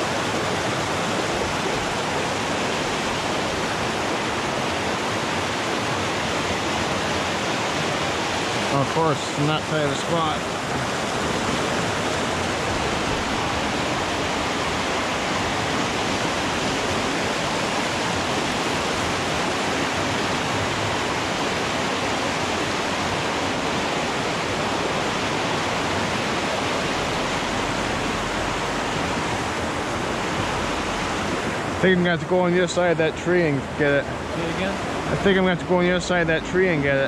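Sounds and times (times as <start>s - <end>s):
whitewater rapids rushing: 0.0s - 37.0s.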